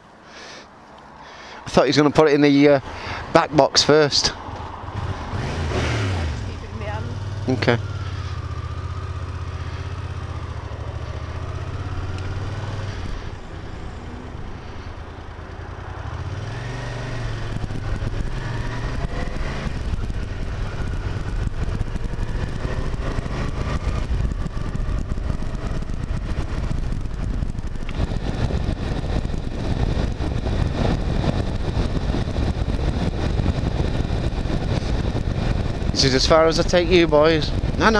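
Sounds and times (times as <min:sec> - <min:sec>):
wind rush: 0:01.1 - 0:37.9
motorcycle engine accelerating: 0:03.5 - 0:37.9.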